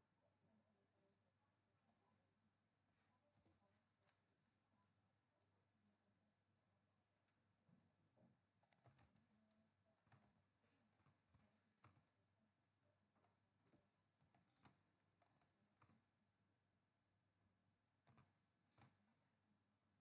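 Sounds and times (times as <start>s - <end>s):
faint keyboard typing: 0.5s - 6.2s, 7.1s - 16.4s, 17.9s - 19.5s.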